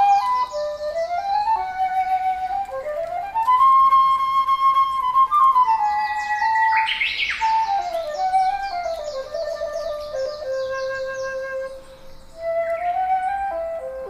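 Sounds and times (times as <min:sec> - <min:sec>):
slow flute melody: 0:00.0 - 0:14.0
small birds chirping: 0:00.0 - 0:14.0.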